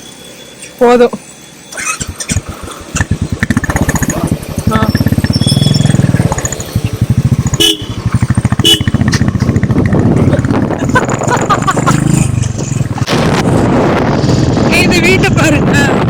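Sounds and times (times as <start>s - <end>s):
motorcycle engine exhaust beat: 1.8s - 16.0s.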